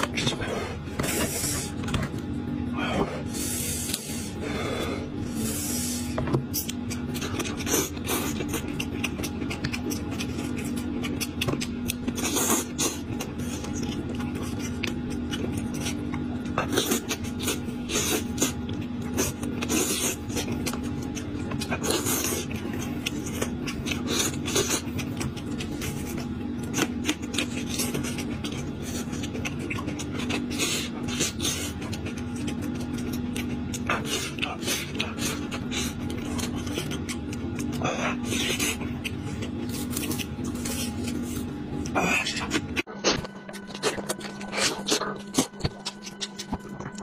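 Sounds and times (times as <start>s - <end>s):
person chewing and sucking meat: 0.0s - 47.0s.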